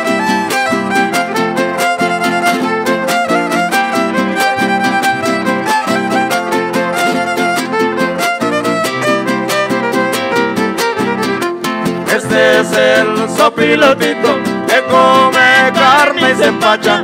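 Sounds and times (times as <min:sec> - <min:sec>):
quick guitar strumming: 0:00.0 - 0:17.0
violin playing lively melody: 0:00.0 - 0:17.0.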